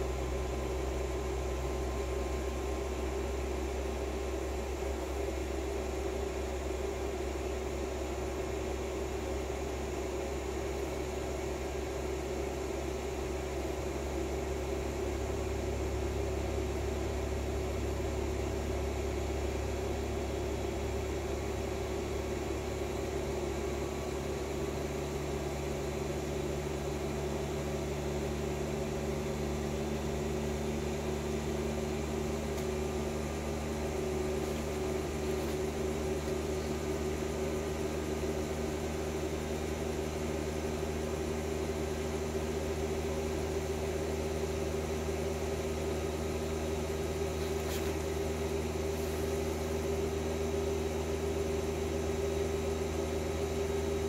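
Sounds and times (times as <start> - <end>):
machinery hum with steady tone: 0.0 - 54.0.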